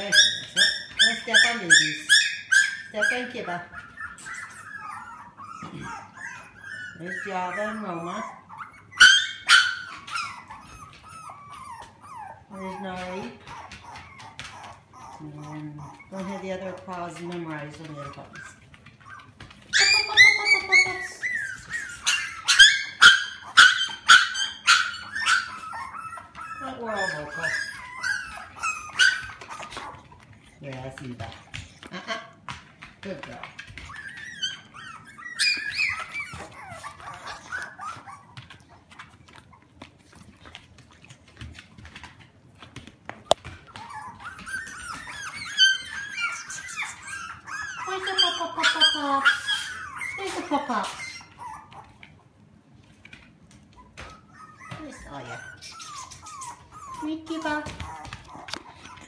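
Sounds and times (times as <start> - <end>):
puppies whining and yelping: 0.0 - 59.0.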